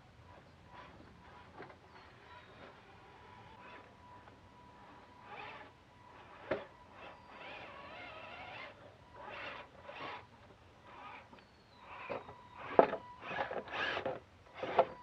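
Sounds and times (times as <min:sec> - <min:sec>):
electric motor and gear whine: 0:00.0 - 0:15.0.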